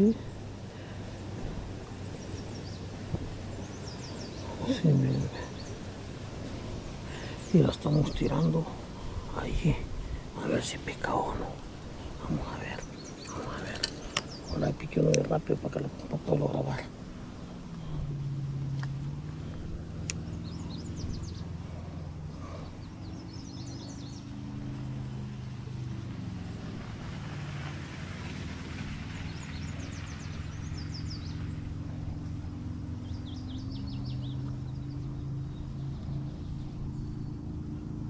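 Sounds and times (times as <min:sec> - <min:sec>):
birds singing rapid trills: 0:00.0 - 0:38.0
low engine hum: 0:00.0 - 0:38.0.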